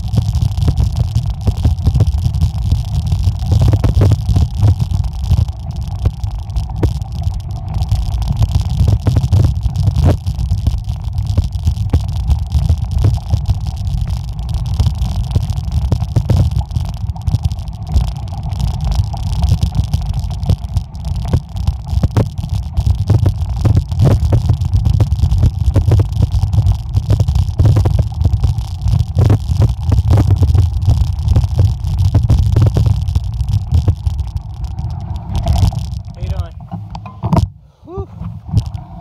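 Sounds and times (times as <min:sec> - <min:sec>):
tyres clicking on gravel: 0:00.0 - 0:37.1.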